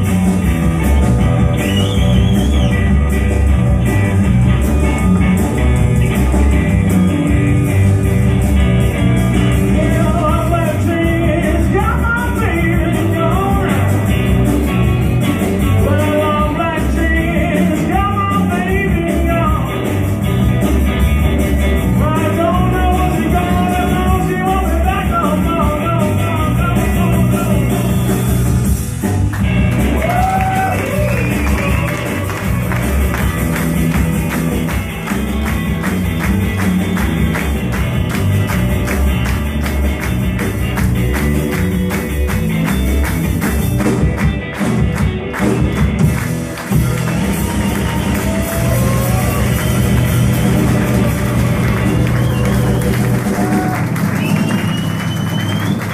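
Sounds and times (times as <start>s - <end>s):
bending electric guitar lead: 0.0s - 55.9s
blues rock band playing live: 0.0s - 55.9s.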